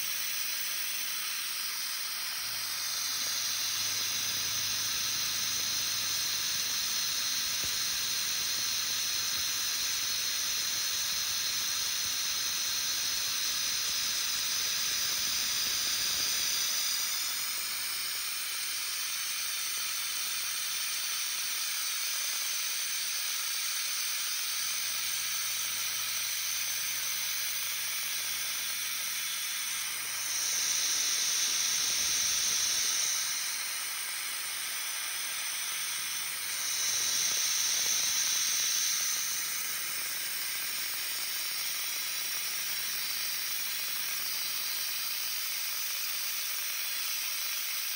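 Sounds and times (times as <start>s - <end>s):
air nozzle hissing: 0.0s - 47.9s.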